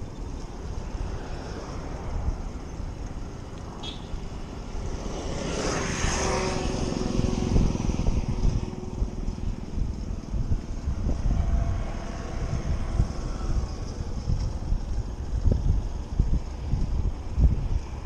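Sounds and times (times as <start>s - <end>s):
wind buffeting microphone: 0.0s - 18.0s
motor vehicle passing: 0.4s - 18.0s.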